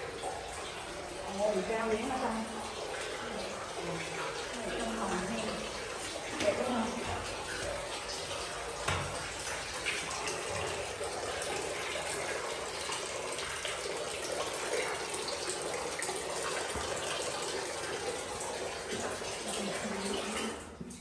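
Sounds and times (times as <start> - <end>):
running water: 0.0 - 21.0.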